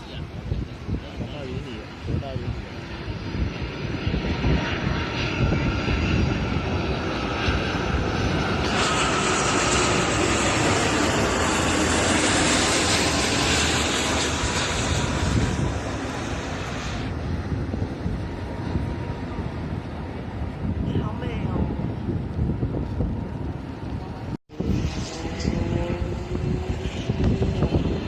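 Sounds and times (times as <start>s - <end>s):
jet airliner passing: 0.0s - 28.0s.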